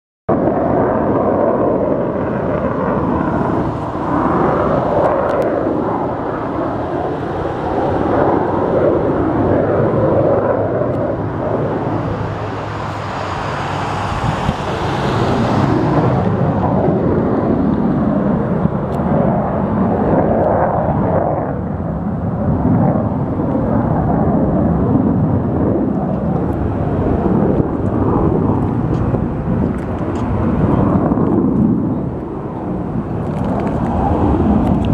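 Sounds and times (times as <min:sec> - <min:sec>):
airplane flying overhead: 0:00.3 - 0:34.9.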